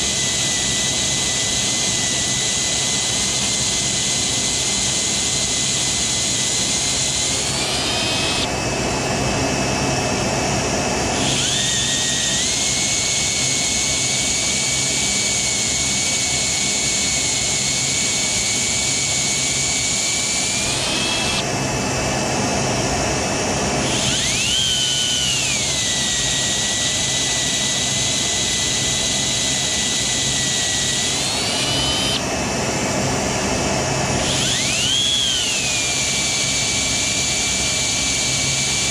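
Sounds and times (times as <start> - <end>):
power drill whining: 0.0 - 38.9.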